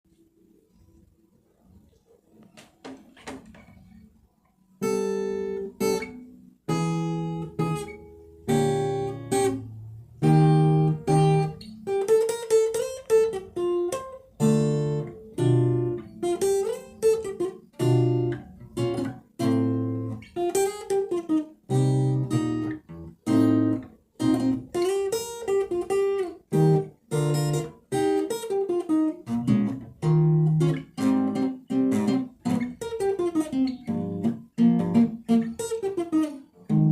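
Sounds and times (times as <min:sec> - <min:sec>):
acoustic guitar: 0:00.1 - 0:36.9.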